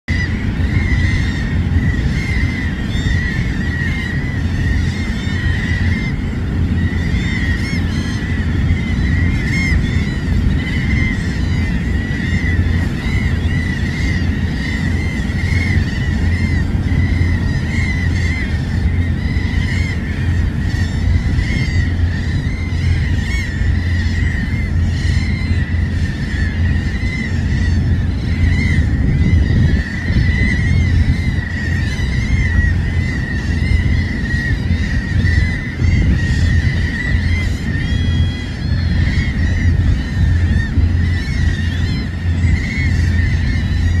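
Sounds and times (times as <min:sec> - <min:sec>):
seabird calls: 0:00.1 - 0:44.0.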